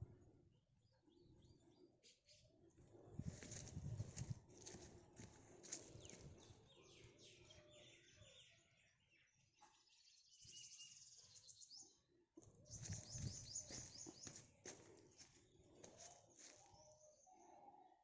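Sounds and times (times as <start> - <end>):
small birds chirping: 3.2 - 17.8.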